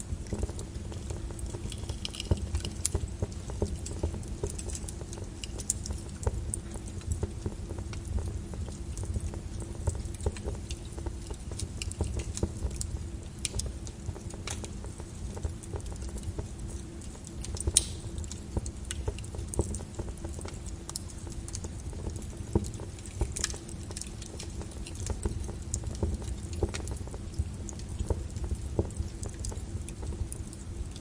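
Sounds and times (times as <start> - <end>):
lava crackling and popping: 0.0 - 31.0.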